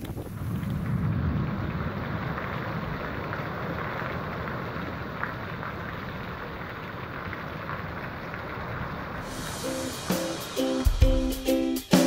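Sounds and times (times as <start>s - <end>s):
heavy rain on flooded street: 0.0s - 11.3s.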